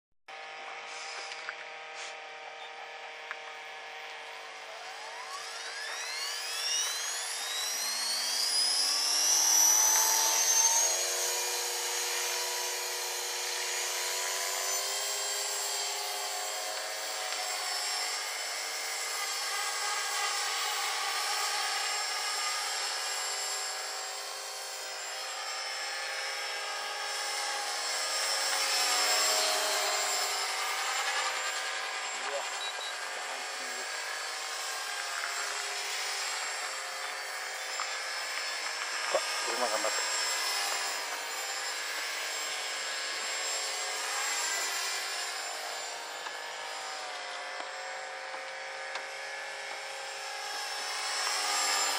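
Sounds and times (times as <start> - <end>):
rc helicopter motor whine: 0.3 - 51.9.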